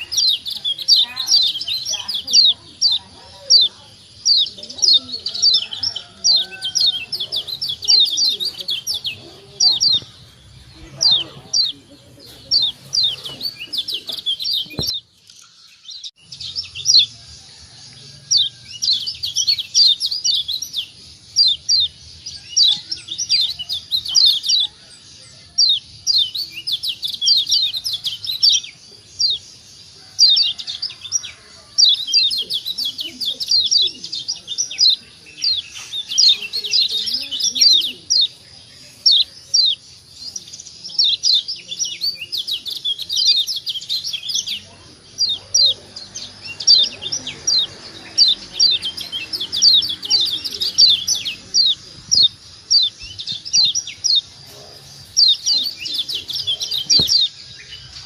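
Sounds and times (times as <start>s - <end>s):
bird singing chattering phrases: 0.0s - 58.0s.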